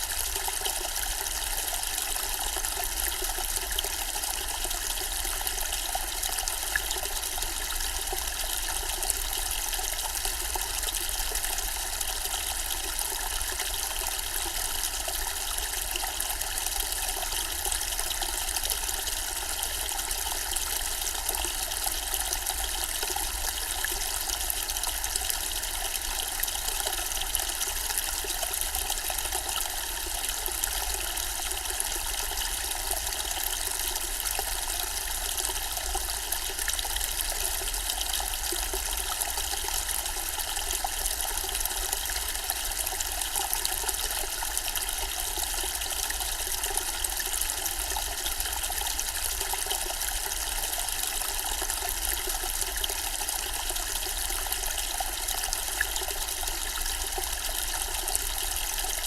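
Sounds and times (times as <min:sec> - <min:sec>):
fountain water trickling: 0:00.0 - 0:59.0.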